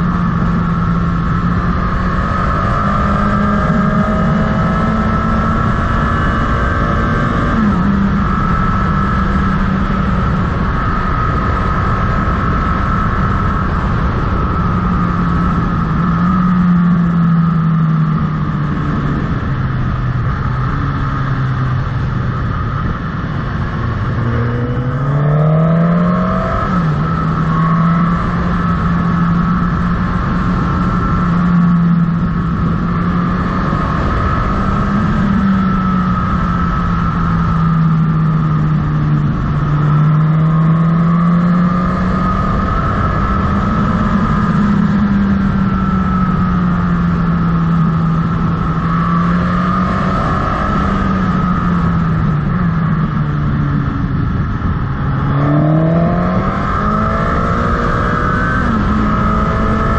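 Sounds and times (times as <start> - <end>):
motorcycle engine running: 0.0 - 59.9
wind noise: 0.0 - 59.9.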